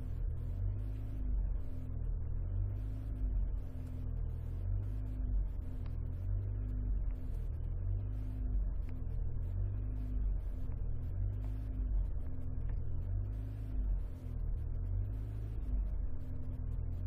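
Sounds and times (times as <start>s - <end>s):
car engine and road drone: 0.0s - 17.0s
faint pulsing tone: 0.0s - 17.0s.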